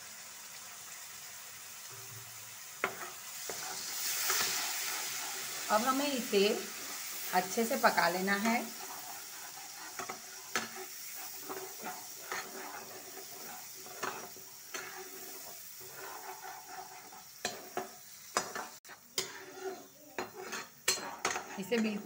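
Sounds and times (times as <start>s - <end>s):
gravy sizzling in oil: 0.0s - 22.0s
spatula scraping and tapping pan: 2.8s - 22.0s.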